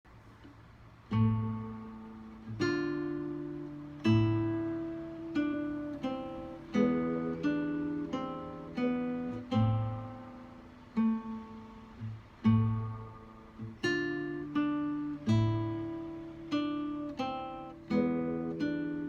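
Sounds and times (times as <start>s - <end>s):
acoustic guitar chords: 0.1s - 19.0s.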